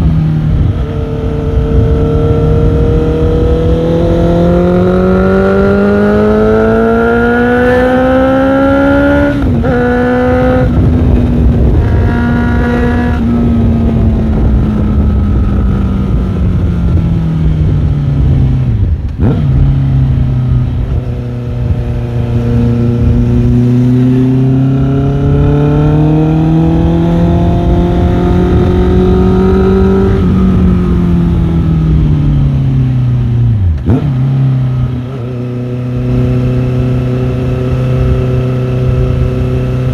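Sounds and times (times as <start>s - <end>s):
low wind rumble: 0.0s - 39.9s
motorcycle engine revving: 0.0s - 39.9s.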